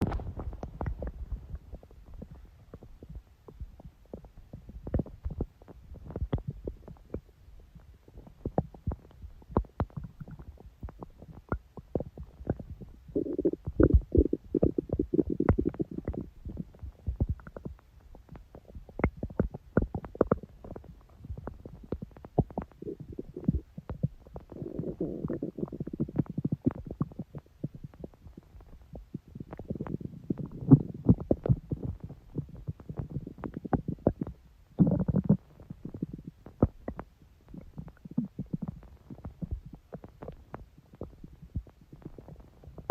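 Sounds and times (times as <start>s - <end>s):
stomach growling and gurgling: 0.0s - 42.9s.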